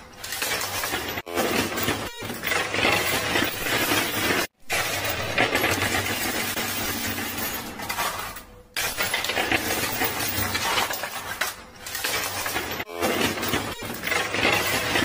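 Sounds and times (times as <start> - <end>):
coins and chips clattering: 0.0 - 15.0.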